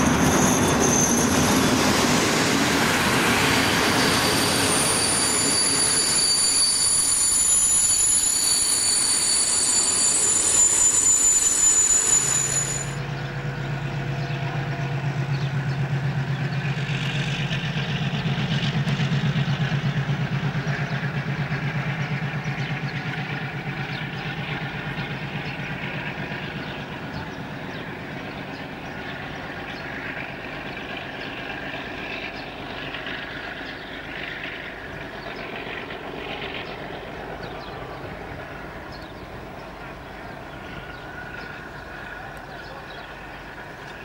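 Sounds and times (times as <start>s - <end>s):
diesel locomotive engine pulsing hum: 0.0s - 44.0s.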